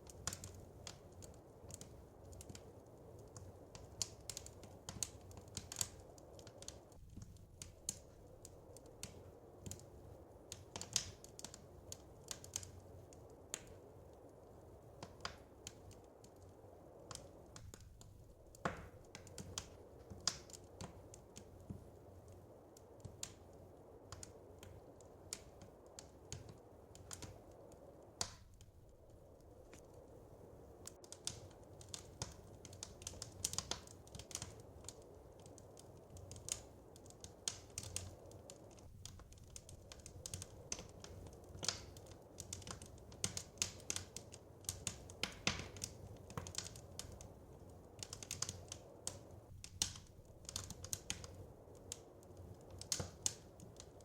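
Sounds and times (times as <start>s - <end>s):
low rumble of burning fire: 0.0s - 54.0s
wood fire crackling and popping: 0.0s - 54.0s.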